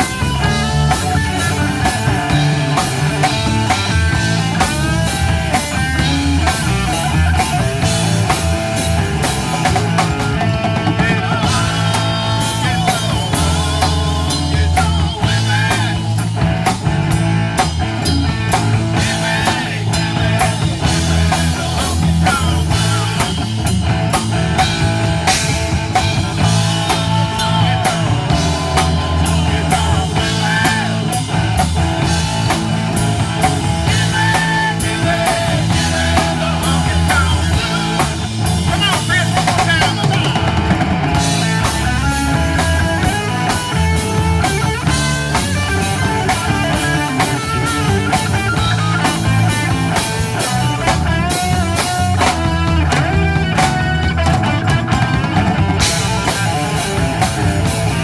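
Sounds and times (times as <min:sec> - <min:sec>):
drum kit beat: 0:00.0 - 0:58.0
electric guitars and bass: 0:00.0 - 0:58.0
lead guitar line bending: 0:00.0 - 0:58.0.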